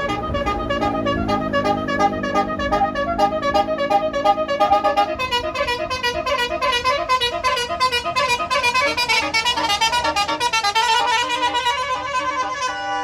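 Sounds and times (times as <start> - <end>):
multi-tone bus horn melody: 0.0 - 13.0.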